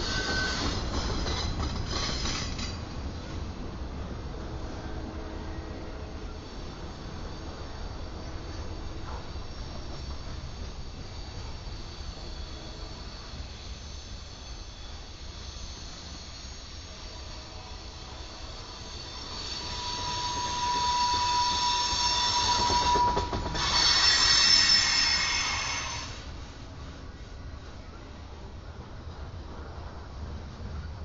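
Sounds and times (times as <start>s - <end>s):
train wheels squealing: 0.0s - 27.1s
freight cars rumbling on rails: 0.0s - 31.0s.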